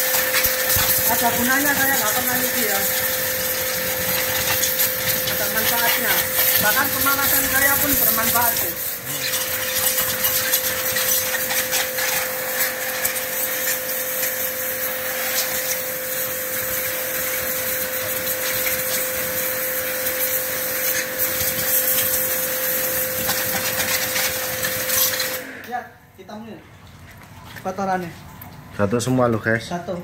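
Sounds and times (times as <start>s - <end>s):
pressure washer spraying water: 0.0s - 25.8s
pump motor whine: 0.0s - 30.0s.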